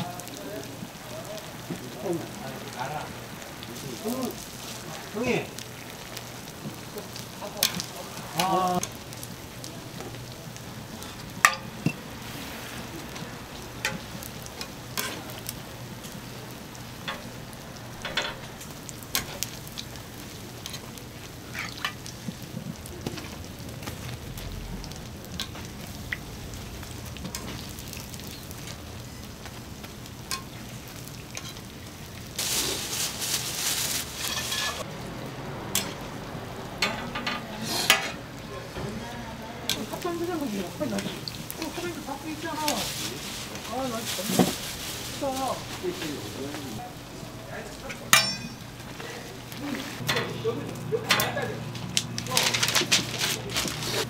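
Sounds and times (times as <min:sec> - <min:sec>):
pancakes sizzling in oil: 0:00.0 - 0:54.0.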